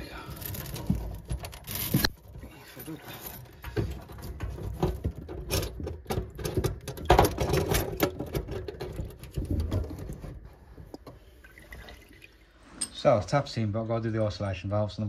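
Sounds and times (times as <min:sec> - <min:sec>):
hoses scraping and rustling: 0:00.0 - 0:12.8.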